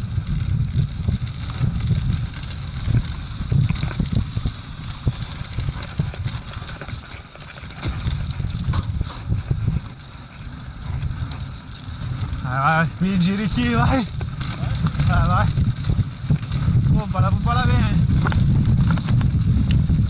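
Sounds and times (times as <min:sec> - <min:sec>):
bike rattling and knocking: 0:00.0 - 0:20.0
tyres rolling over dirt and leaves: 0:00.0 - 0:20.0
wind buffeting microphone: 0:00.0 - 0:20.0.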